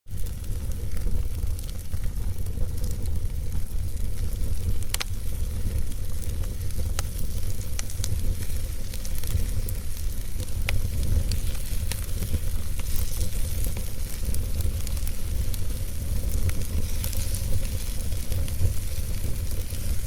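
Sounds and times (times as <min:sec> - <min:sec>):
fire rumbling and hissing: 0:00.1 - 0:20.0
logs crackling and popping: 0:00.1 - 0:20.0.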